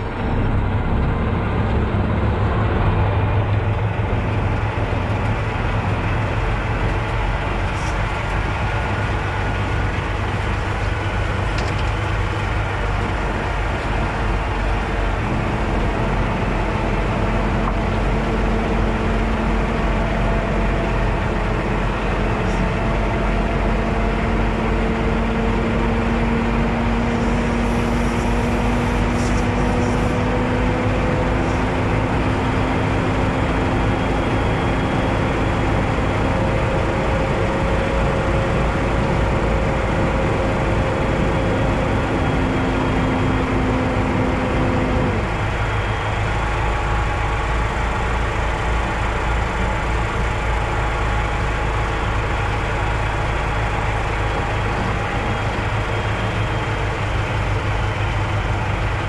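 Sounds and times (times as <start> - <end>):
road noise: 0.0 - 59.0
truck engine: 0.0 - 59.0.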